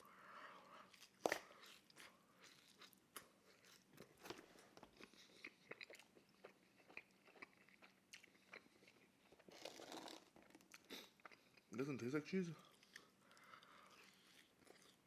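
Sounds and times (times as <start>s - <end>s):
chewing crunchy pizza: 0.6s - 12.0s, 12.6s - 15.0s.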